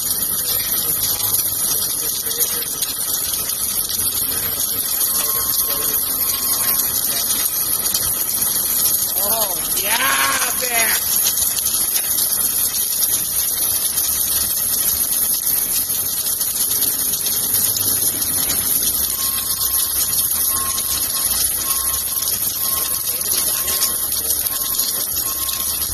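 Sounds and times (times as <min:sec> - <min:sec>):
welding machine hissing: 0:00.0 - 0:25.9.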